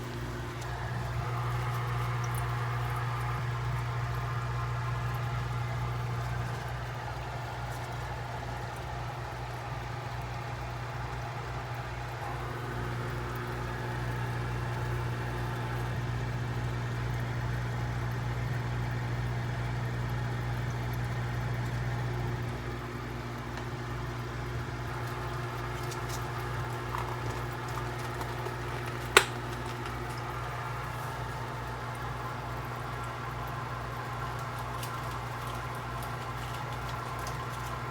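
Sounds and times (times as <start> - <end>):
low mechanical hum: 0.0 - 37.9.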